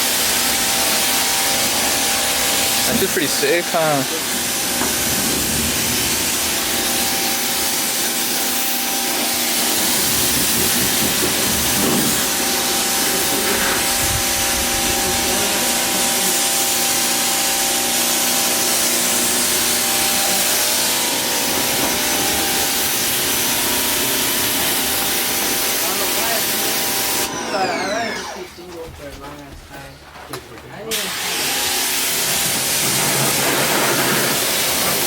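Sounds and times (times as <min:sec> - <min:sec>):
pressure washer spraying water: 0:00.0 - 0:28.5, 0:30.9 - 0:35.0
motor humming: 0:00.1 - 0:28.6.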